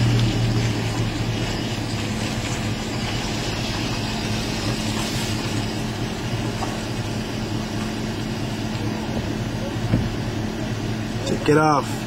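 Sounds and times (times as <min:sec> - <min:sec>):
engine idling hum: 0:00.0 - 0:12.0.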